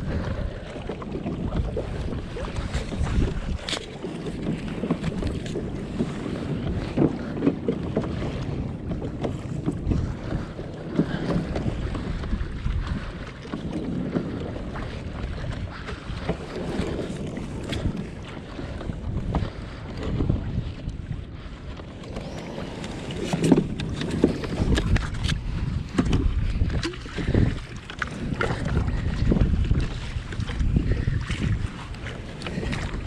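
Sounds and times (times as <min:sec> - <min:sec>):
water lapping and splashing: 0:00.0 - 0:33.0
wind buffeting microphone: 0:00.0 - 0:33.0.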